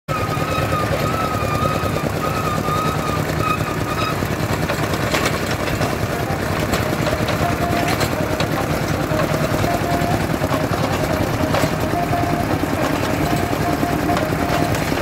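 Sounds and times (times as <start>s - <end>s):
drilling rig running: 0.1s - 15.0s.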